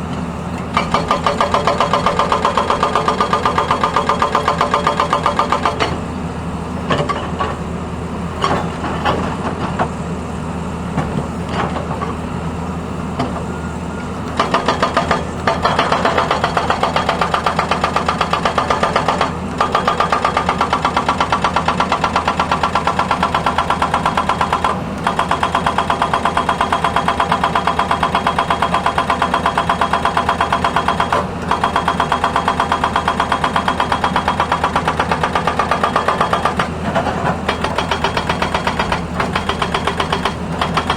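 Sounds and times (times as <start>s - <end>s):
excavator running: 0.0s - 40.9s
hydraulic breaker hammering road: 0.0s - 40.9s.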